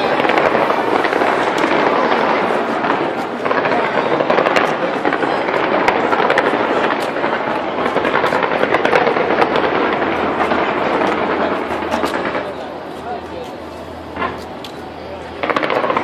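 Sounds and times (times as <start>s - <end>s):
crackling rumble: 0.0s - 16.0s
fireworks pops and cracks: 0.0s - 16.0s.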